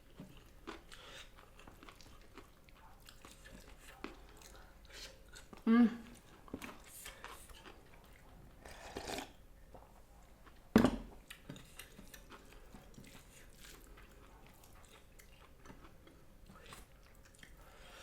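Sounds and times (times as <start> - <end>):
chewing food: 0.0 - 18.0.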